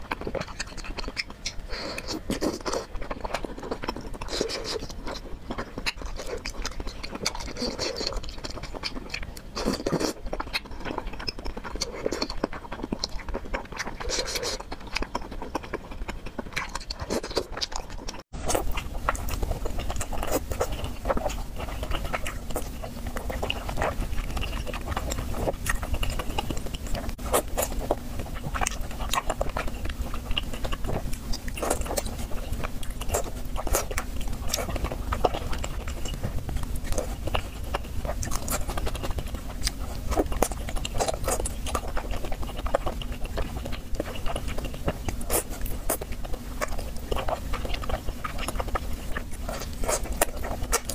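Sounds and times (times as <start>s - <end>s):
wet chewing and biting: 0.0s - 50.9s.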